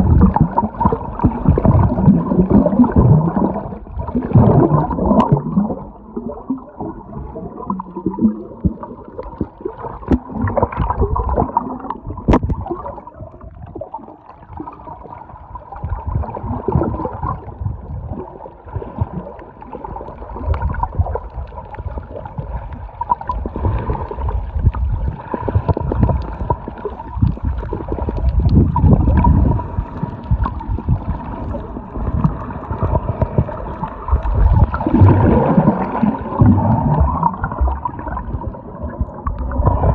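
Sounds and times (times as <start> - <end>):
underwater gurgling and sloshing: 0.0 - 39.9.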